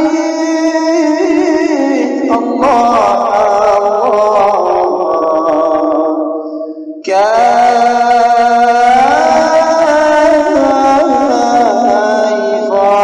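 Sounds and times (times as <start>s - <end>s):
devotional singing with held notes: 0.0s - 13.0s.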